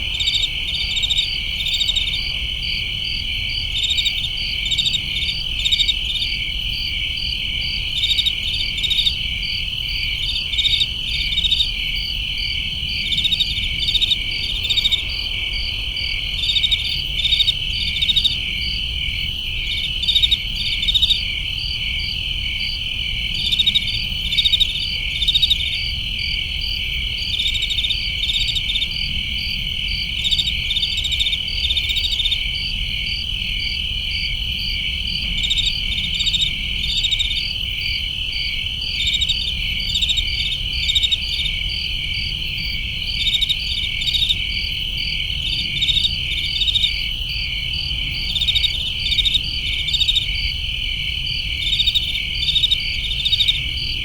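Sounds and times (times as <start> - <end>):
crickets trilling: 0.0 - 54.0
rapid pulsed insect chirps: 0.0 - 54.0.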